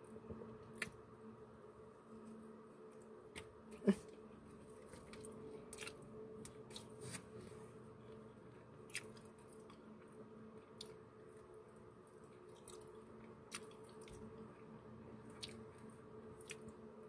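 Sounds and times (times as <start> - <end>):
low steady hum: 0.0 - 17.0
faint chewing of food: 2.0 - 16.8.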